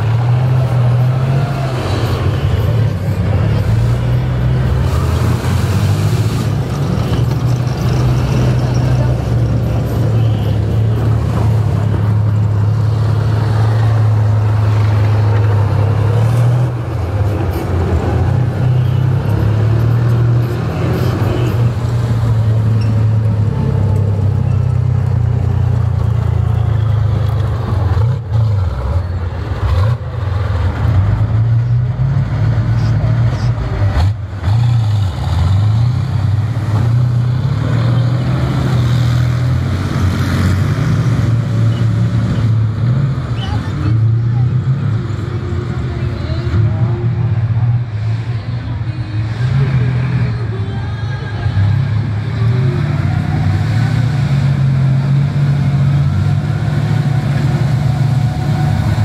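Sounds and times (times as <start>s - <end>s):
tracked vehicle diesel engines: 0.0s - 59.0s.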